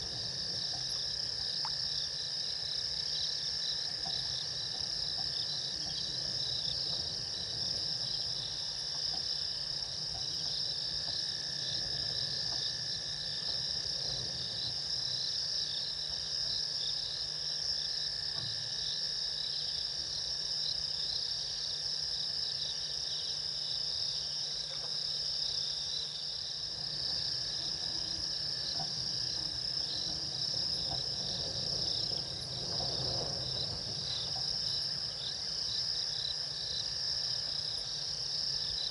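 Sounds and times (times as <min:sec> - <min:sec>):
crickets trilling: 0:00.0 - 0:38.9
low insect tone: 0:00.0 - 0:38.9.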